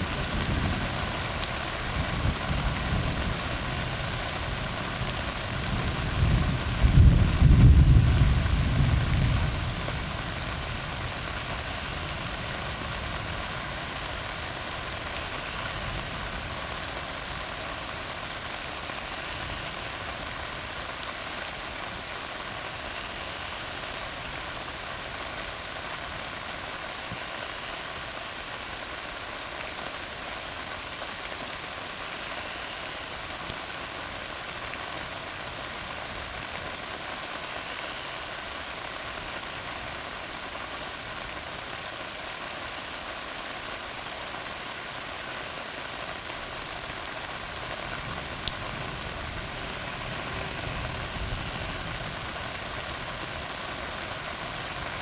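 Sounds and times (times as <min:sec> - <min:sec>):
rain falling on road: 0:00.0 - 0:55.0.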